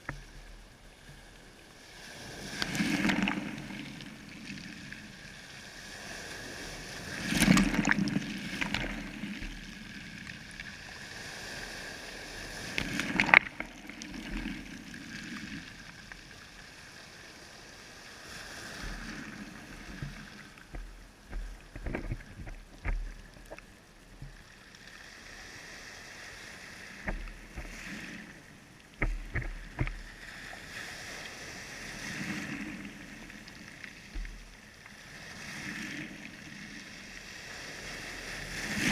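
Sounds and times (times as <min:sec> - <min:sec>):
water sloshing and splashing: 0:02.0 - 0:16.6, 0:18.2 - 0:24.7, 0:26.5 - 0:37.2, 0:37.8 - 0:38.9.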